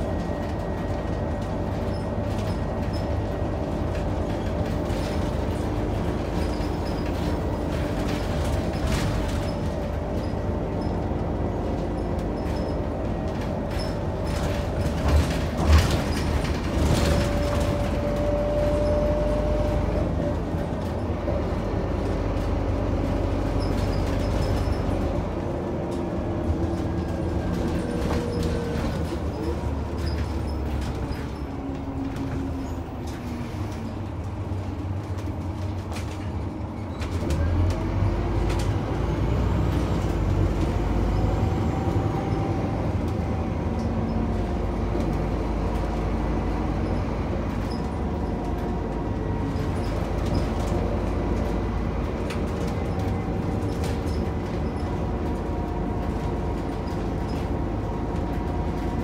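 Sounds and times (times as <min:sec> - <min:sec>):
bus body rattling and creaking: 0:00.0 - 0:59.0
bus engine running: 0:00.0 - 0:59.0.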